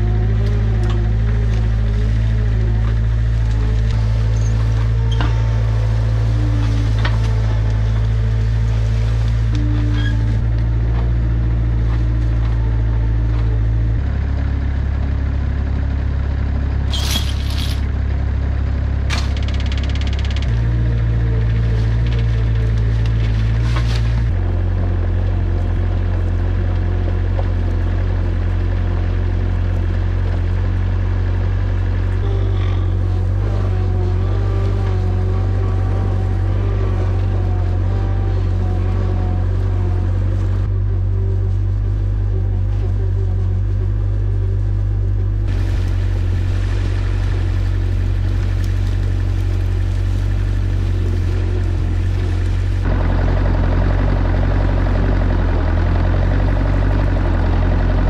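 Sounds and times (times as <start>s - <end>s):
bulldozer engine droning: 0.0s - 58.0s.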